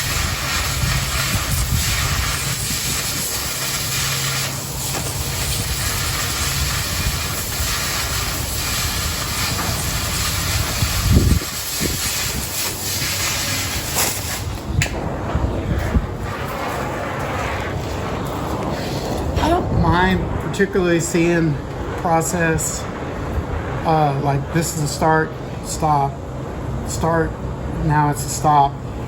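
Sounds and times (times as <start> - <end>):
cutting torch hissing: 0.0 - 29.0.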